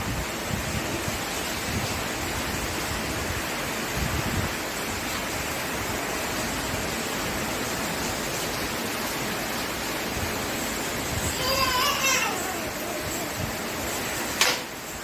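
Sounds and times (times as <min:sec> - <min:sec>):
wind gusts buffeting microphone: 0:00.0 - 0:14.4
heavy rain pouring: 0:00.0 - 0:15.0.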